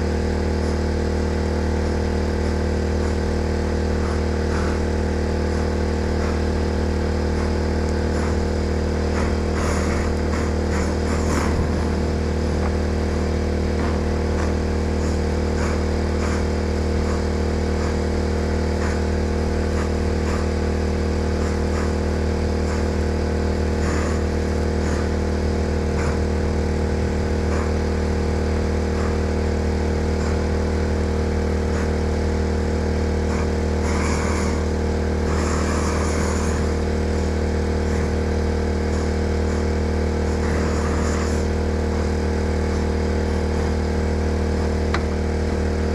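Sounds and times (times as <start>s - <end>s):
generator engine humming: 0.0s - 45.9s.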